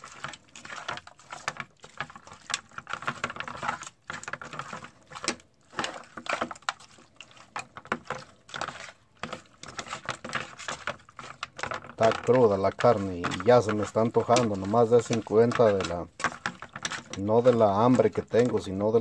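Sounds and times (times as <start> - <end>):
hand squelching raw meat: 0.0 - 19.0.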